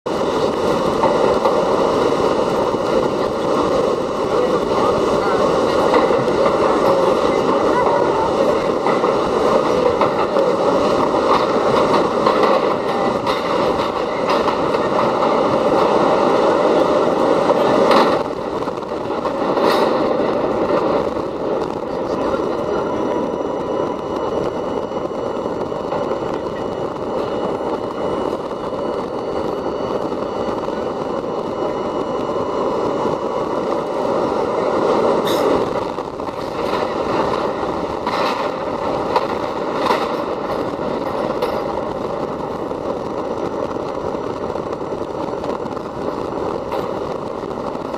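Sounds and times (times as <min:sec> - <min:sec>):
subway train wheels rumbling: 0:00.0 - 0:47.9.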